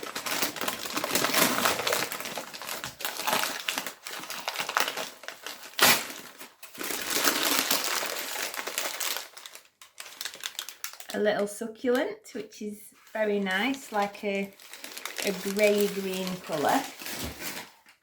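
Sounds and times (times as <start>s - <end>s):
packaging crinkling and rustling: 0.0s - 11.2s, 13.0s - 18.0s.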